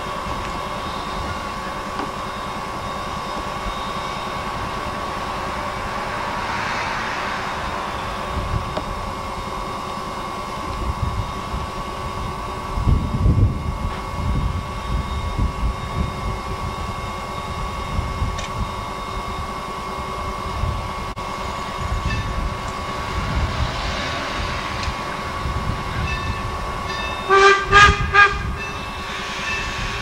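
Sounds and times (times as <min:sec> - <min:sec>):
steam locomotive rumbling: 0:00.0 - 0:30.0.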